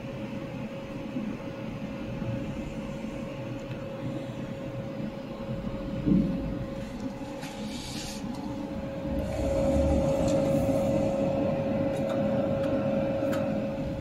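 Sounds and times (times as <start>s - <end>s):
laser welding machine humming: 0.0s - 14.0s.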